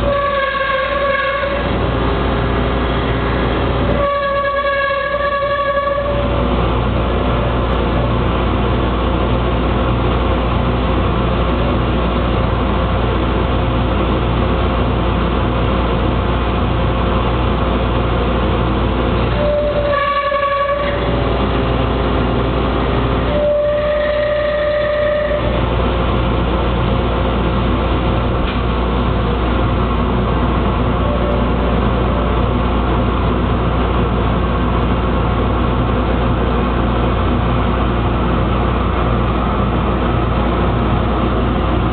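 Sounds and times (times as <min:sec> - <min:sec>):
lathe machine drone: 0:00.0 - 0:16.3, 0:17.1 - 0:41.9.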